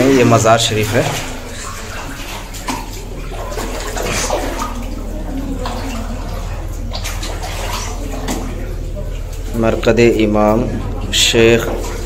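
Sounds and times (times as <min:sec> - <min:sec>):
low hum: 0:00.0 - 0:12.0
water running and splashing: 0:00.0 - 0:12.0.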